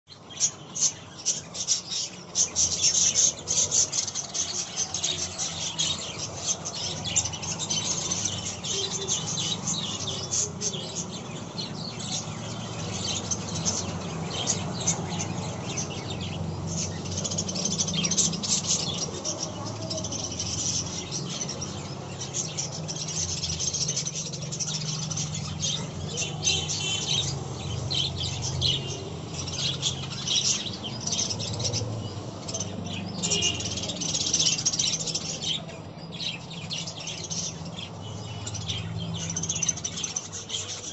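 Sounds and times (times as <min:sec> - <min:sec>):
budgerigars chattering: 0:00.3 - 0:40.9.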